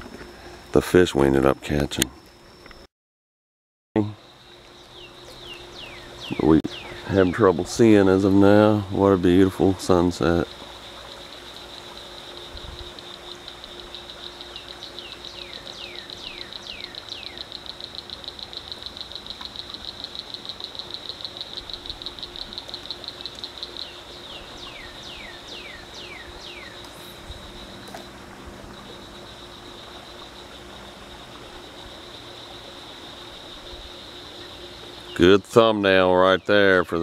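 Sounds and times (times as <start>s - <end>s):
insect chorus buzzing: 0.0s - 2.9s, 4.0s - 37.0s
pulsing insect trill: 0.0s - 2.9s, 4.0s - 37.0s.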